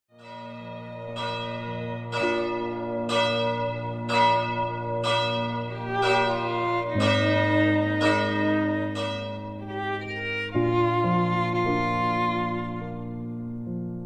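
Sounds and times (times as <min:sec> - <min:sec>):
deep bell ringing: 0:00.2 - 0:12.8
held low chords: 0:00.2 - 0:13.6.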